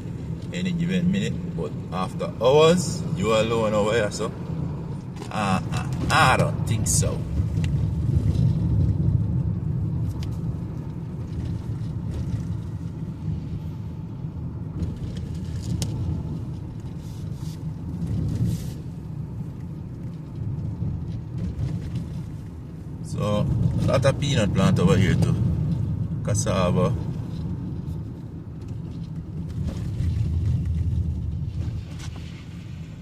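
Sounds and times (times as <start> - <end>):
engine and tyre rumble: 0.0 - 33.0.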